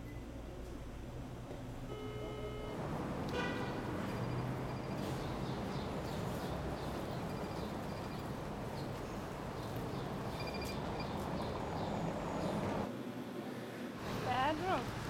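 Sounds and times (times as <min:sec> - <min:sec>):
traffic: 0:00.0 - 0:15.0
pedestrian noise: 0:00.5 - 0:15.0.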